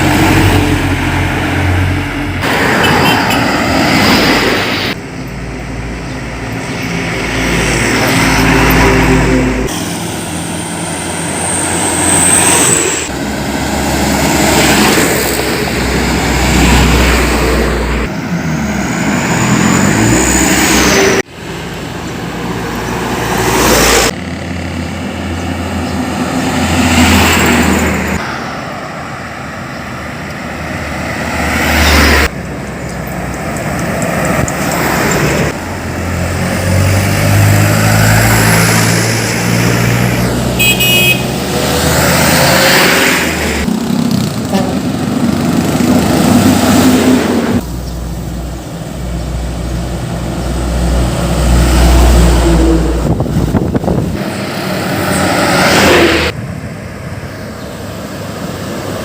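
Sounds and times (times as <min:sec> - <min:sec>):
cars passing with tyre noise: 0:00.0 - 0:59.0
heavy trucks passing: 0:00.0 - 0:59.0.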